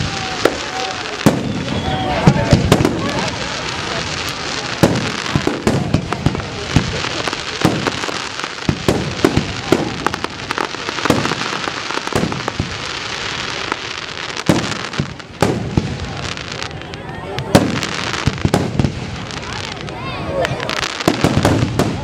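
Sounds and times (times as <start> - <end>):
fireworks bangs: 0.0 - 22.0
fireworks crackle: 0.0 - 22.0.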